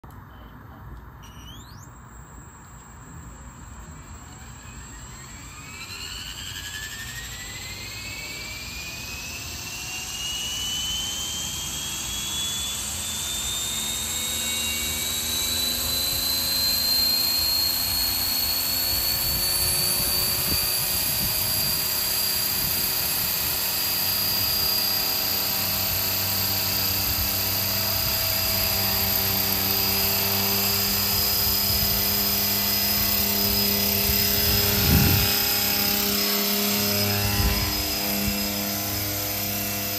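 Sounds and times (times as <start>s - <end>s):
model helicopter motor whine: 1.0s - 39.9s
helicopter rotor noise: 1.2s - 39.9s.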